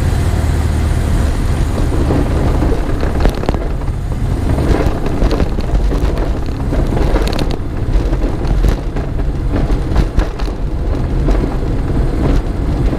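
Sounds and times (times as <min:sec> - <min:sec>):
light aircraft engine drone: 0:00.0 - 0:12.9.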